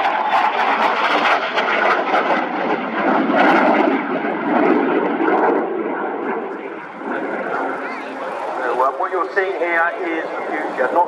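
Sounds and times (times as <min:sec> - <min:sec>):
jet roar with crackle: 0:00.0 - 0:11.0.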